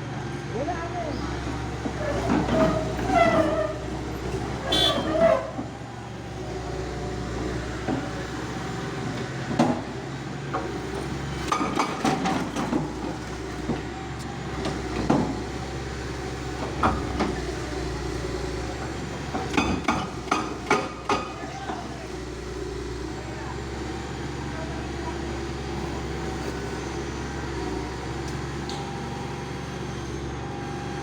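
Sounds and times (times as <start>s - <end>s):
heavy machine engine running: 0.0s - 31.0s.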